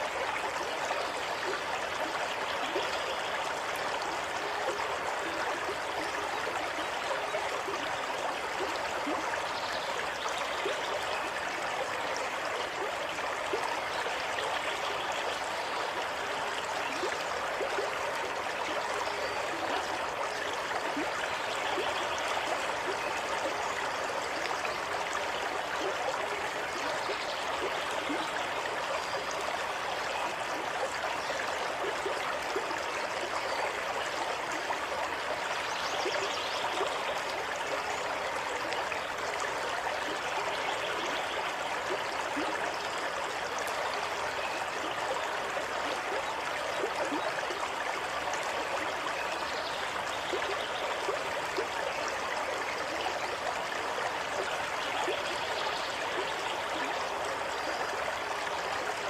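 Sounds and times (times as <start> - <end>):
stream flowing and gurgling: 0.0 - 59.0.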